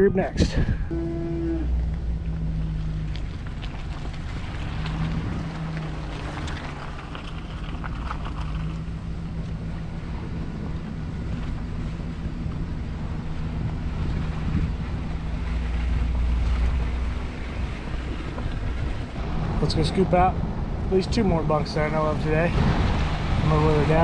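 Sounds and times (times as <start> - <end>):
wind noise on microphone: 0.0 - 24.0
vehicle engine running: 0.9 - 24.0.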